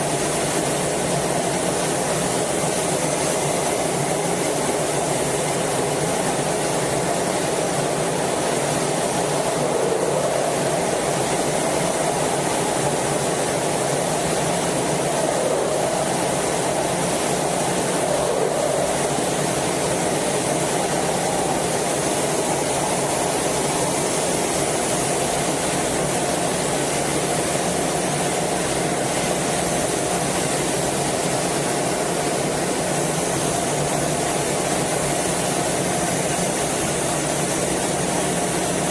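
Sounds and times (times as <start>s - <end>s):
faint steady hum: 0.0s - 38.9s
jet engine and airflow rush: 0.0s - 38.9s.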